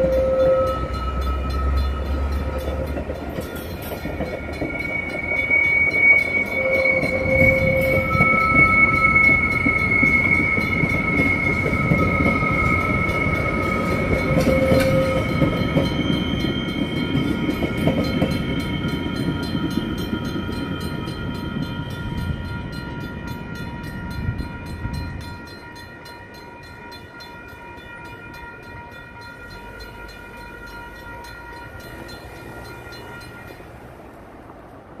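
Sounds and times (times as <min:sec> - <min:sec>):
railroad crossing bells ringing: 0:00.0 - 0:35.0
train rumbling: 0:00.0 - 0:35.0.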